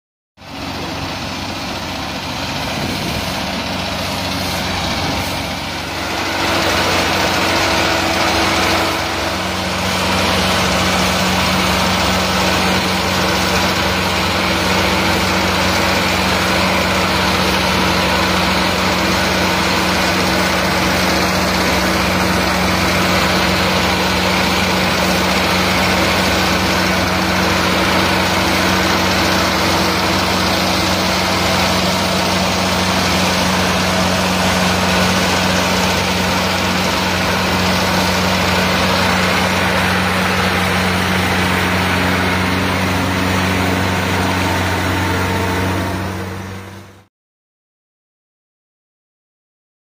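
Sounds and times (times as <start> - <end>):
combine harvester running: 0.4 - 47.1.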